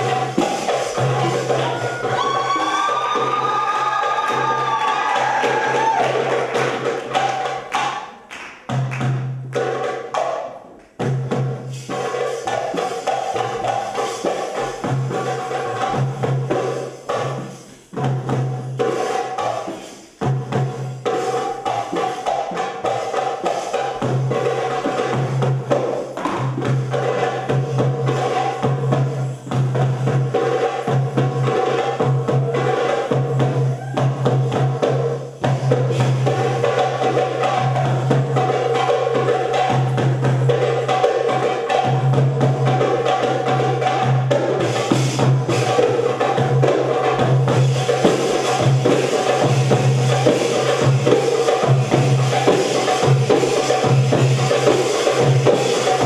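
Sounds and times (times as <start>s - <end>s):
hand drums playing a driving rhythm: 0.0s - 56.0s.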